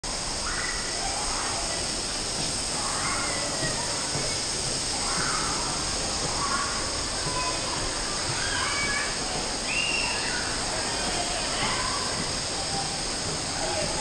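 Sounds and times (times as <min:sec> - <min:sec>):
steady rushing water noise: 0:00.0 - 0:14.0
distant voices and shouts: 0:00.4 - 0:14.0.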